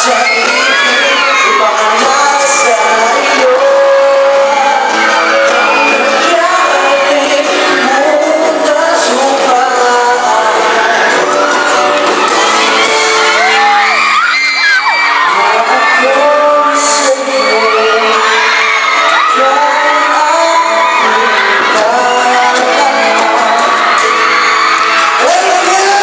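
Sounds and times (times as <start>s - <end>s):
crowd shouting: 0.0s - 26.0s
live band playing pop song: 0.0s - 26.0s.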